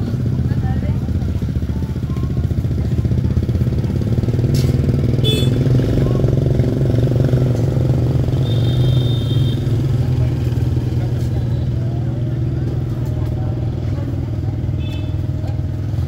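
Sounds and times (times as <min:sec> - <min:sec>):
motorbike engine idling: 0:00.0 - 0:16.0.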